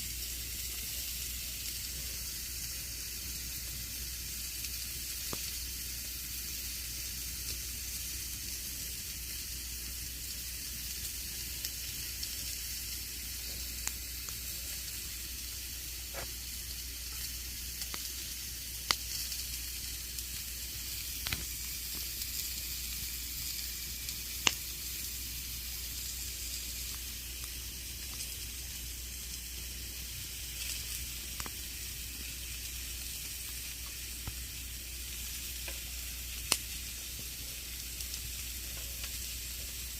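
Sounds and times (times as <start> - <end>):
campfire crackling: 0.2 - 39.9.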